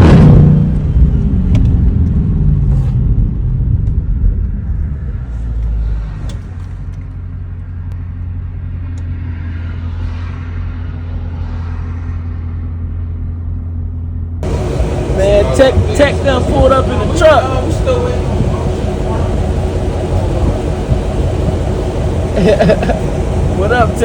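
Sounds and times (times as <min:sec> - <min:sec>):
car engine revving down and idling: 0:00.0 - 0:24.0.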